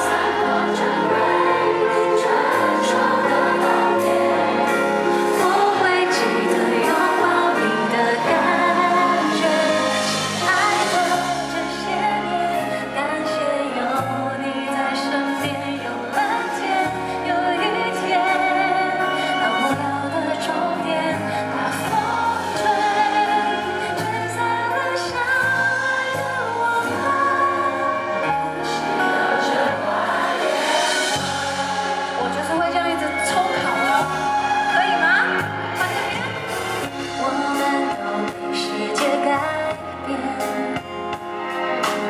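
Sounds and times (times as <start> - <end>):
live band playing: 0.0 - 42.0
person singing with vibrato: 0.0 - 42.0.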